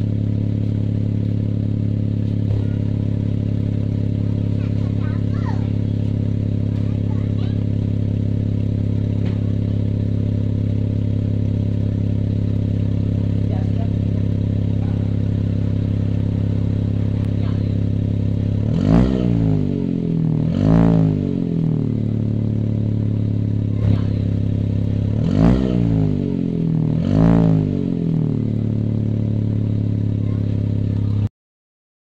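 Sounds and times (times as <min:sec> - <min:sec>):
car exhaust idling and revving: 0:00.0 - 0:31.3.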